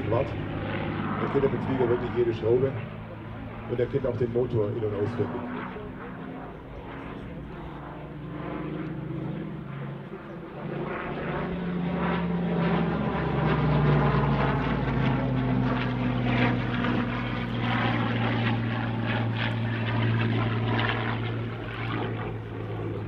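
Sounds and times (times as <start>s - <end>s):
propeller aircraft engine in flight: 0.0s - 23.0s.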